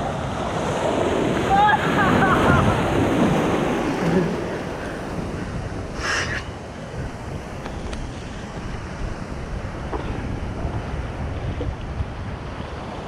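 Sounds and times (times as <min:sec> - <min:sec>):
ocean surf: 0:00.0 - 0:13.0
wind rumble on microphone: 0:00.0 - 0:13.0.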